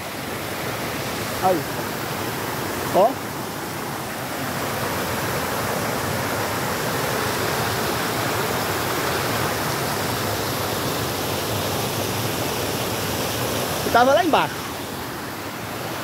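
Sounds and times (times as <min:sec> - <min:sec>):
creek water rushing and splashing: 0:00.0 - 0:16.0.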